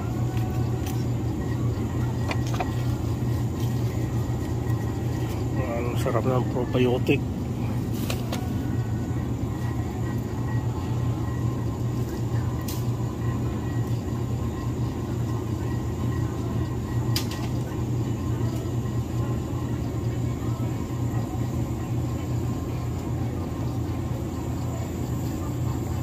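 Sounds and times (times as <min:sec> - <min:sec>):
low hum and rumble: 0:00.0 - 0:26.0.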